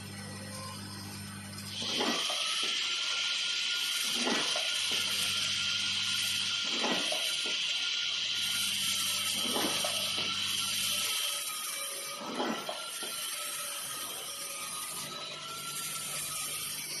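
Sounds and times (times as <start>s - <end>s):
crimping machine humming and hissing: 0.0s - 17.0s.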